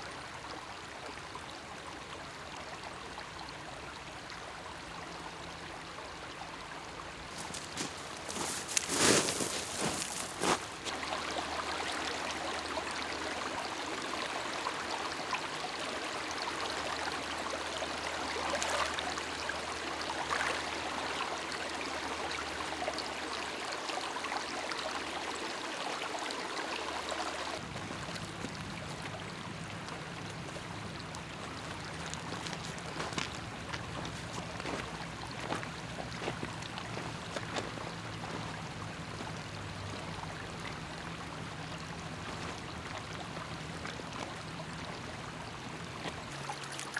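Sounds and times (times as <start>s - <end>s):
water lapping at shore: 7.1s - 46.9s.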